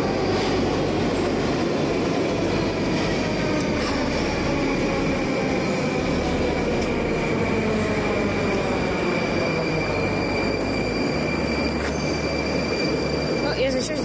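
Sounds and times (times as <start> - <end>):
train hum with high whine: 0.0 - 14.0.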